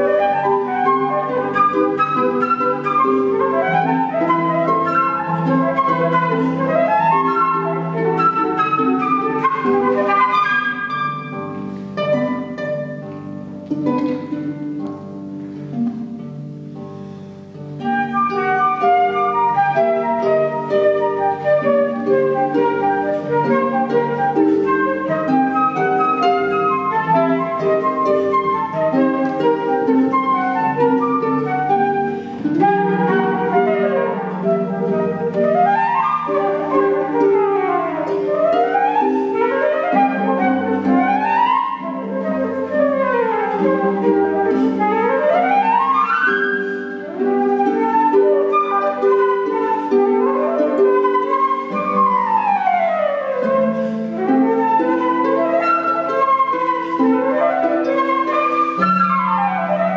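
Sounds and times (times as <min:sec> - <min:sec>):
concert harp: 0:00.0 - 0:59.9
flute melody: 0:00.0 - 0:59.9.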